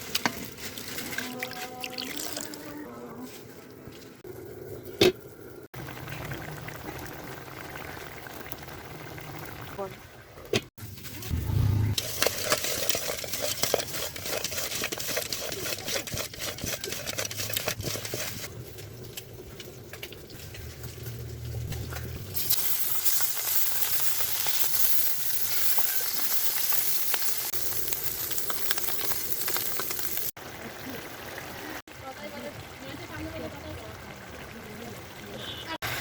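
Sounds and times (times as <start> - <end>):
food frying in hot oil: 4.9 - 9.8, 12.1 - 36.0.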